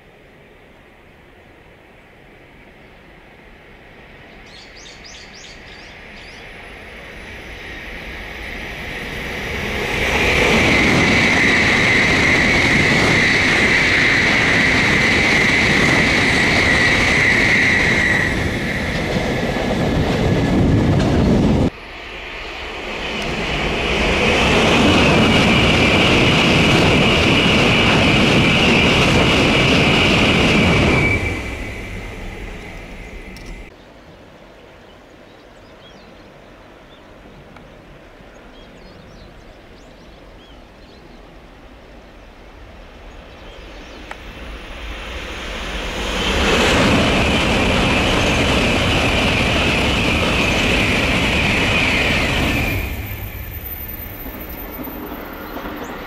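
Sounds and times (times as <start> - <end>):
high-speed train passing: 0.0 - 34.4, 35.1 - 56.0.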